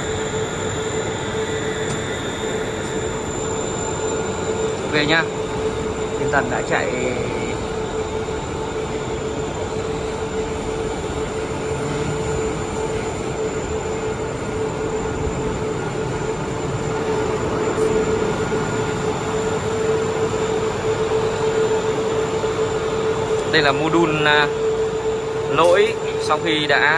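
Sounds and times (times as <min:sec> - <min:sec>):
motor drive humming and whining: 0:00.0 - 0:26.9.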